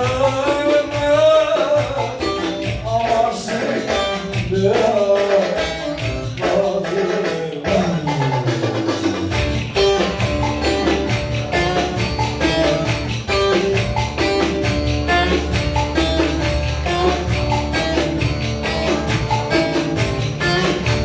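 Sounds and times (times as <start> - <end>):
fast percussion beat: 0.0 - 21.0
instrumental folk dance music: 0.0 - 21.0
jingling percussion: 0.0 - 21.0.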